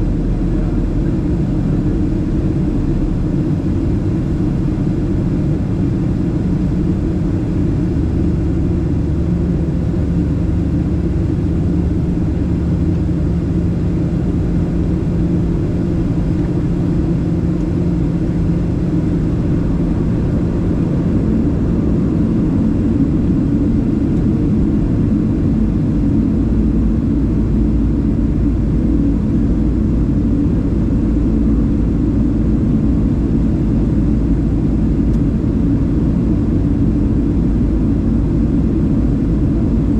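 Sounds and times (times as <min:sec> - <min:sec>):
airplane engines rumbling in flight: 0:00.0 - 0:39.9
low hum: 0:00.0 - 0:39.9.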